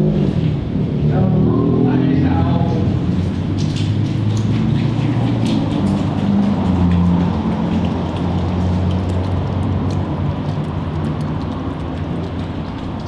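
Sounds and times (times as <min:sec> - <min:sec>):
storm water rushing through grate: 0:00.0 - 0:13.0.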